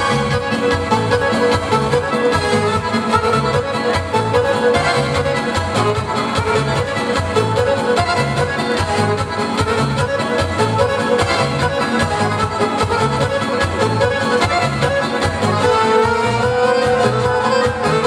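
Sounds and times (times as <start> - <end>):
folk dance music: 0.0 - 18.0.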